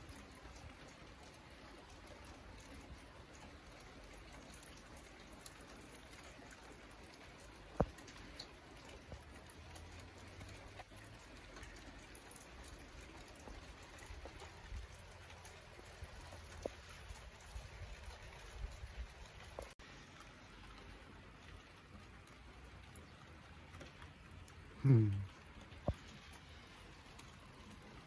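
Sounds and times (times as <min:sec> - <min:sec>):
light rain pattering: 0:00.0 - 0:28.0.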